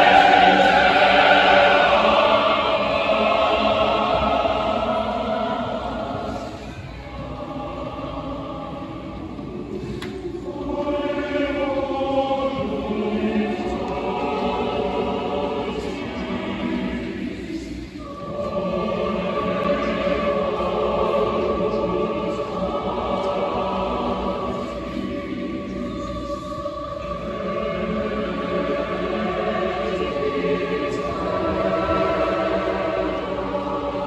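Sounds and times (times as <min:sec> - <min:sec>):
choir singing sustained chords: 0:00.0 - 0:34.0.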